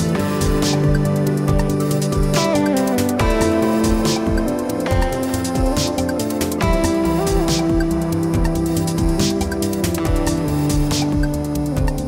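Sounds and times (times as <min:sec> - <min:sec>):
held synth notes: 0:00.0 - 0:12.0
steady low beat: 0:00.0 - 0:12.0.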